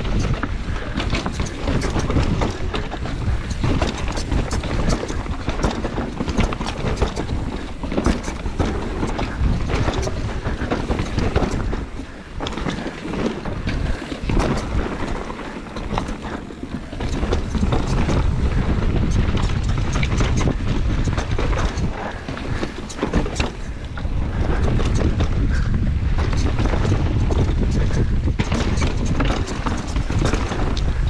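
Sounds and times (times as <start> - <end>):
bike rattling and knocking: 0.0 - 31.0
tyres on loose dirt and stones: 0.0 - 31.0
wind rushing over microphone: 0.0 - 31.0.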